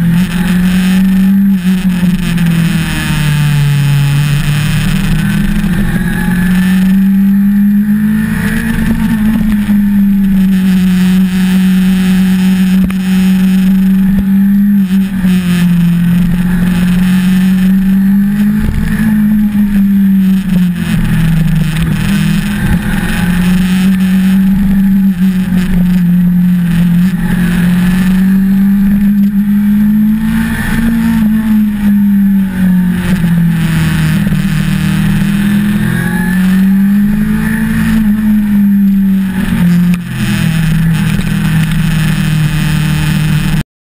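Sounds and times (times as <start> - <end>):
motorcycle engine accelerating: 0.0 - 43.7.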